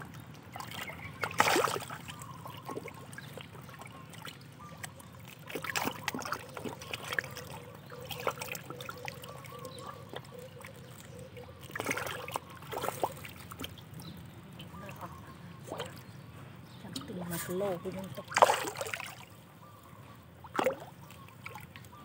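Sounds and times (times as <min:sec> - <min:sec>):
fish splashing and slurping: 0:00.0 - 0:22.0.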